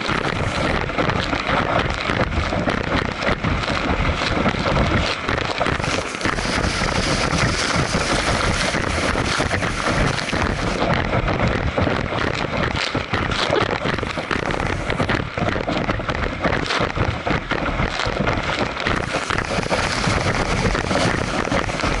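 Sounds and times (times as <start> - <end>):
water spray crackling: 0.0 - 15.8, 17.9 - 22.0
churning boat wake: 0.0 - 22.0
wind buffeting microphone: 0.0 - 22.0.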